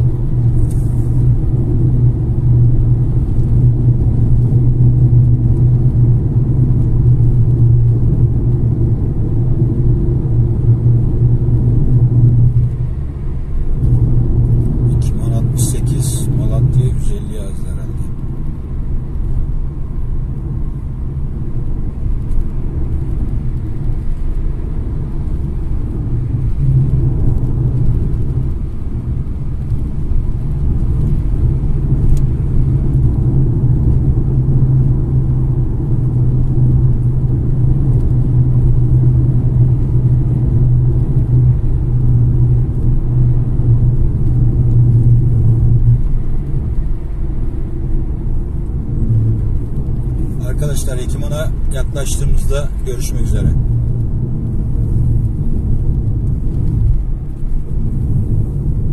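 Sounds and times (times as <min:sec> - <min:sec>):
car engine and road drone: 0:00.0 - 0:58.9.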